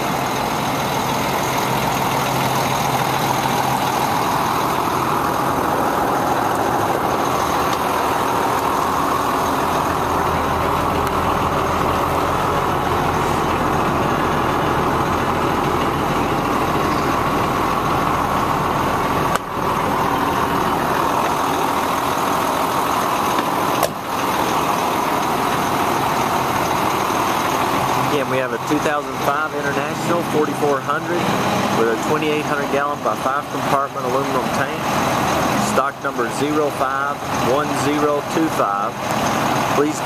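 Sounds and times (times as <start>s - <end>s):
diesel truck engine idling: 0.0s - 40.0s.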